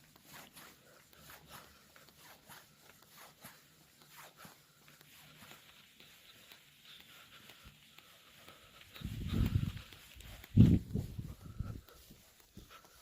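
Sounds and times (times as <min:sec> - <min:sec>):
soft ticks and rustles: 0:00.0 - 0:13.0.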